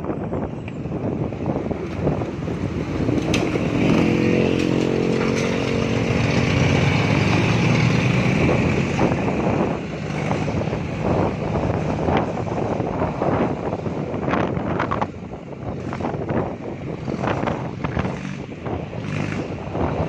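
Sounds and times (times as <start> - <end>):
wind rushing over microphone: 0.0 - 20.0
motorcycle engine running: 0.8 - 20.0.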